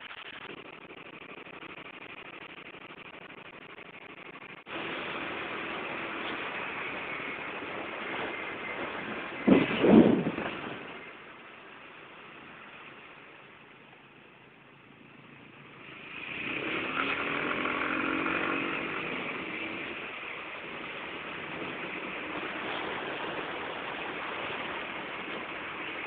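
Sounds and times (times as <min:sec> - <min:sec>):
road and wind noise: 0:00.0 - 0:26.0
vehicle engine droning: 0:00.0 - 0:26.0.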